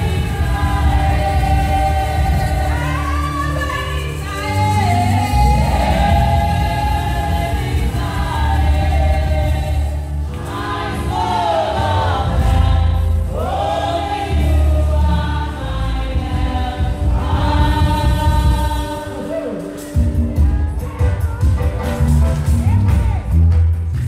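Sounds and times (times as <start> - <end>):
choir singing gospel: 0.0 - 22.7
amplified band with heavy bass: 0.0 - 24.0.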